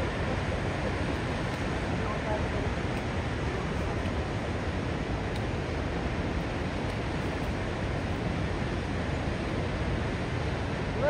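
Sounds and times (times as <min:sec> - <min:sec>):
river rushing over boulders: 0:00.0 - 0:11.0.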